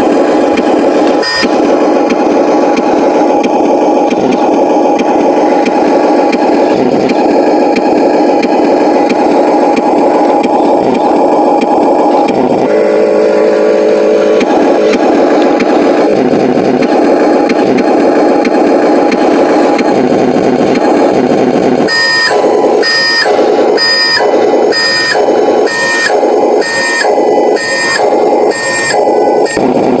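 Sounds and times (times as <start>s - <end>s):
electronic engine sound: 0.0s - 30.0s
steady beeping: 0.0s - 30.0s.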